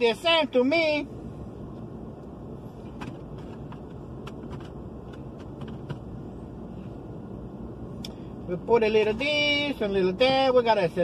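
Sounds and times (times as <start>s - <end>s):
vehicle idling rumble: 0.7s - 11.0s.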